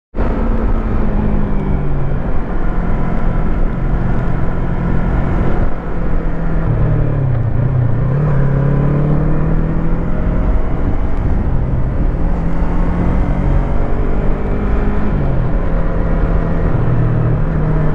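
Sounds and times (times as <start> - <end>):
motorcycle engine hum: 0.2 - 17.9.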